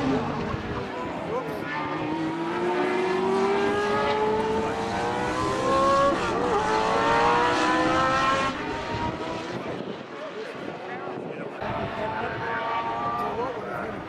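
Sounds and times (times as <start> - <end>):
race car engine accelerating: 0.0 - 10.1, 11.6 - 14.0.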